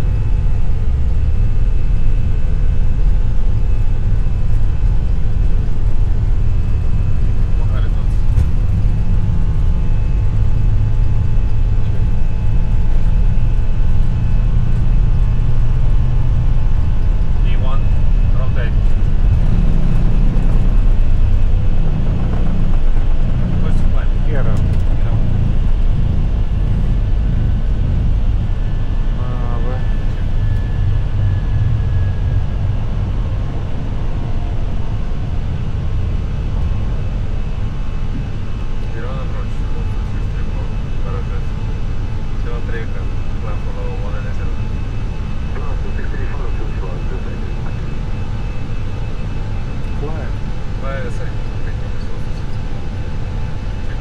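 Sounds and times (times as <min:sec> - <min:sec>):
faint whine tones: 0:00.0 - 0:54.0
jet engines rumbling: 0:00.0 - 0:54.0.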